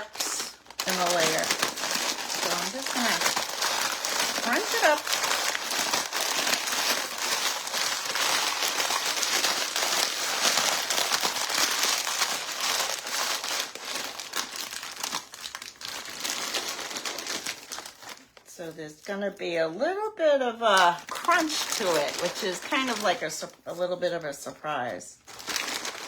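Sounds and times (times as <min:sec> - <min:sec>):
corn chips crunching: 0:00.0 - 0:18.4, 0:21.0 - 0:23.2, 0:25.2 - 0:26.0.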